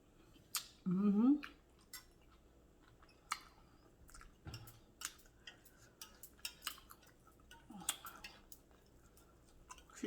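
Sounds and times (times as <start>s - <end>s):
faint chewing mouth smacks: 0.2s - 0.8s, 1.4s - 10.0s.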